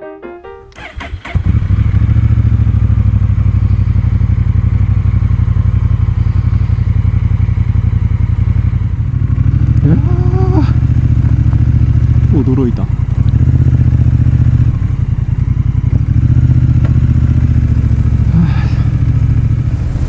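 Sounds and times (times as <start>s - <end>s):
motorcycle engine running: 0.8s - 20.0s.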